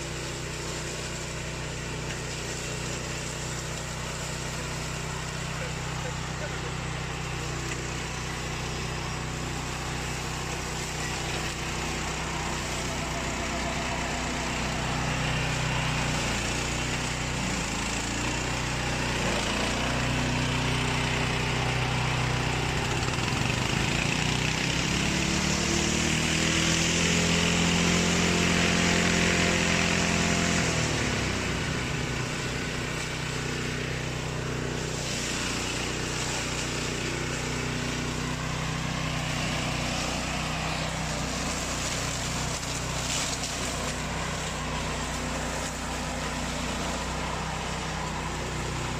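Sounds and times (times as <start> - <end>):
flail mower engine running: 0.0 - 48.9.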